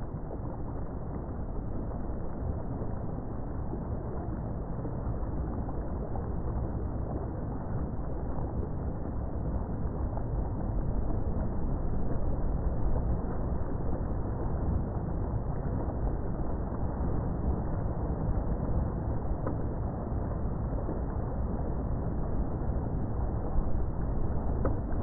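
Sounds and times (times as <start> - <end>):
moving water: 0.0 - 25.0
wind rumble: 0.0 - 25.0.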